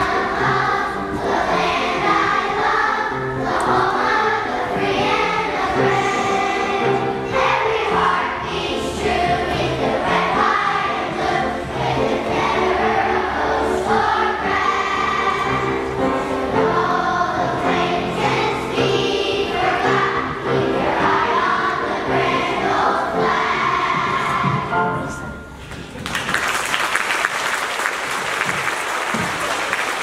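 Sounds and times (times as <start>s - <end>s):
children's choir singing: 0.0s - 25.6s
instrumental accompaniment: 0.0s - 25.9s.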